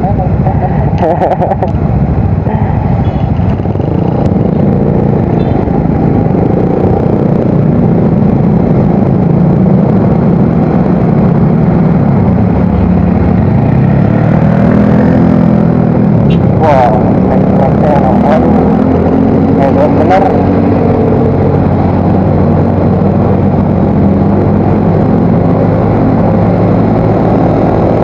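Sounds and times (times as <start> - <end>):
scooter engine drone: 0.0 - 28.0.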